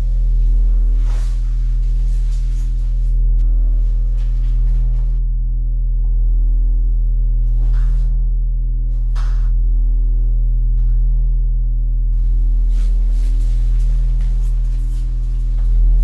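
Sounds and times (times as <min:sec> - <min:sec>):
low electronic drone: 0:00.0 - 0:16.0.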